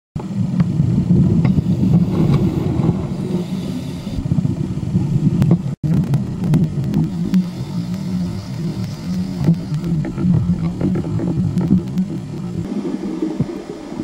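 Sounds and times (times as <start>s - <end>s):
muffled underwater rumble: 0.2s - 14.0s.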